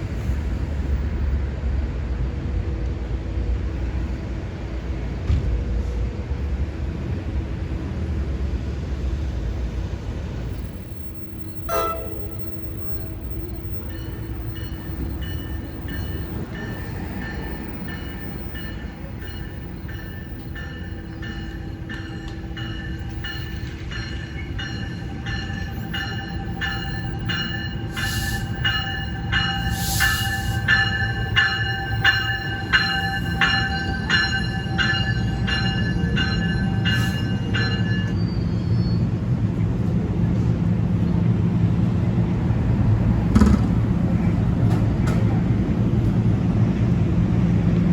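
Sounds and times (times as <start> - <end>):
low rail rumble: 0.0 - 47.9
train high whine: 0.0 - 47.9.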